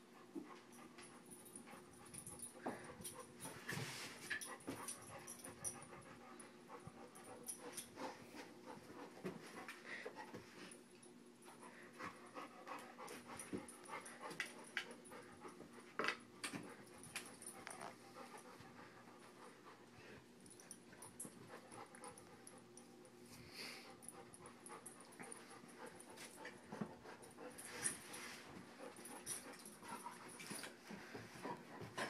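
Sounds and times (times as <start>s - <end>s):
faint steady hum: 0.0s - 32.0s
puppy panting: 0.1s - 10.6s, 11.5s - 23.1s, 23.7s - 32.0s.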